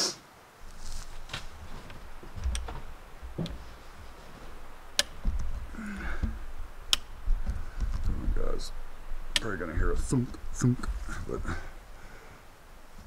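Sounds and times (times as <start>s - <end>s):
dry brush snapping: 0.6s - 11.2s.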